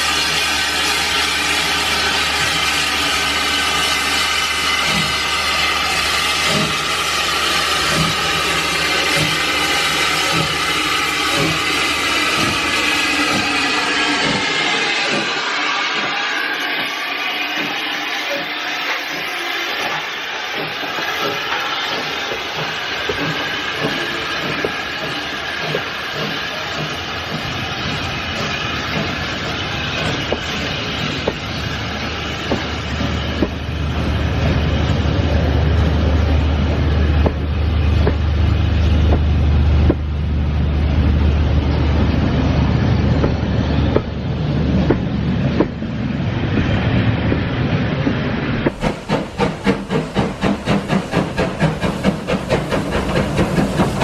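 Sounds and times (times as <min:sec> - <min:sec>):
train running on rails: 0:00.0 - 0:54.0.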